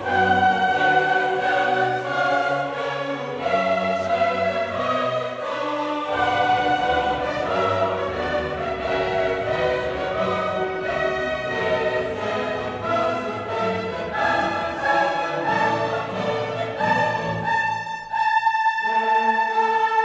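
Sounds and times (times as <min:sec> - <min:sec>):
choir singing: 0:00.0 - 0:20.0
orchestral music: 0:00.0 - 0:20.0.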